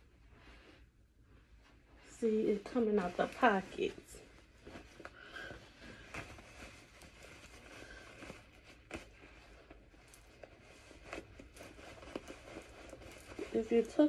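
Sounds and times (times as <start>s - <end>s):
cloth rustling: 0.0s - 14.0s.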